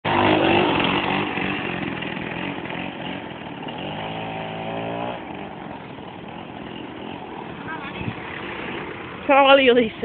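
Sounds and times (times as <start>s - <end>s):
moped engine revving: 0.0s - 10.0s.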